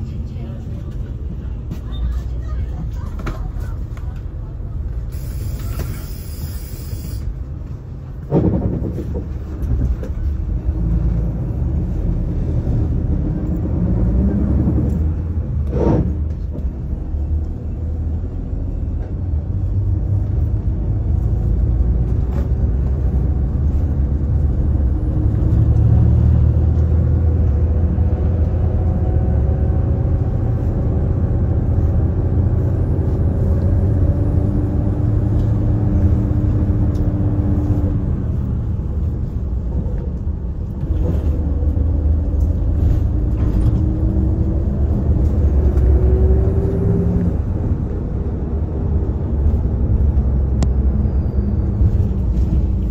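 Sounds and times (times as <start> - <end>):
bus engine and road rumble: 0.0 - 52.9.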